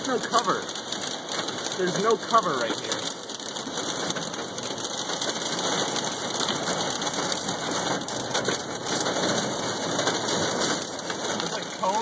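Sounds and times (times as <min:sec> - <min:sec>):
heavy rain on a car roof: 0:00.0 - 0:12.0.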